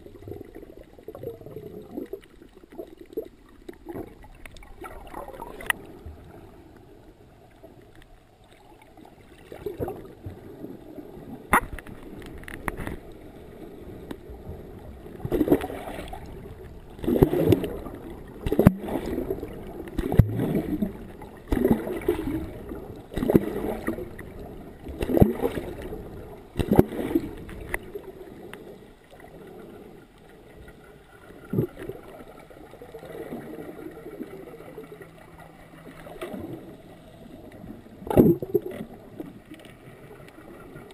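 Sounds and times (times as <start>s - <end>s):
muffled water sloshing underwater: 0.0s - 40.9s
water surges: 0.0s - 40.9s.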